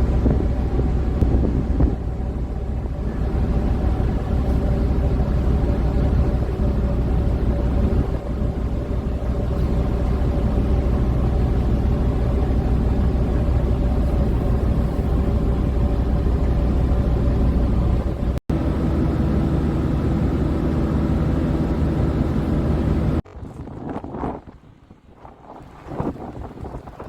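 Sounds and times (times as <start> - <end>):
boat engine rumbling: 0.0 - 27.0.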